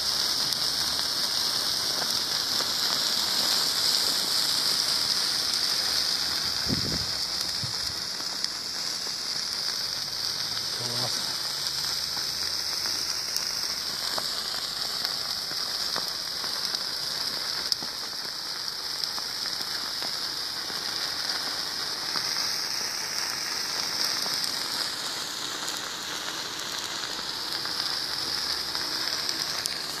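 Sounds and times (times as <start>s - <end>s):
bonfire hissing: 0.0s - 30.0s
fire crackles and pop: 0.0s - 30.0s.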